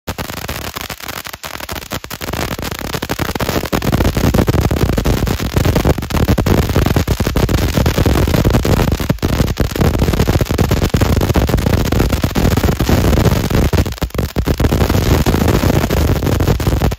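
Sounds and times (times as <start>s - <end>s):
firework fountain hissing: 0.1s - 16.9s.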